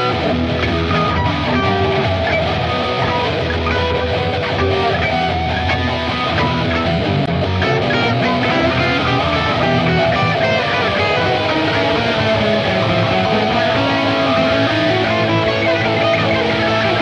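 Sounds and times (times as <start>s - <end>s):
distorted electric guitar music: 0.0s - 17.0s.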